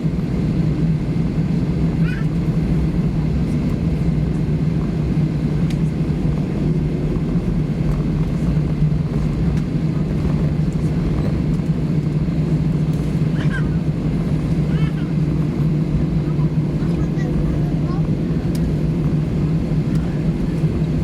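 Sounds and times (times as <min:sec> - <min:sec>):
airplane cabin rumble: 0:00.0 - 0:21.0
constant low hum: 0:00.0 - 0:21.0.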